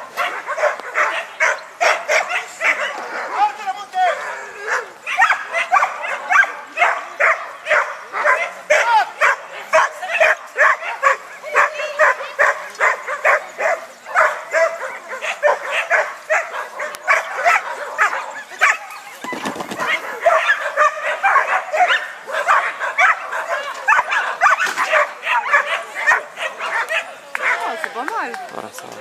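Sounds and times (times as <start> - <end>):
dog barking rapidly: 0.1 - 3.0, 4.7 - 27.8.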